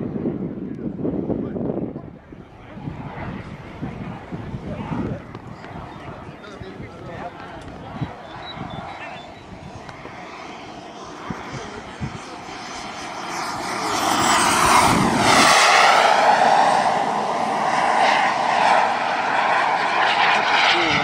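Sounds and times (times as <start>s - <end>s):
model jet engine running: 0.0s - 21.0s.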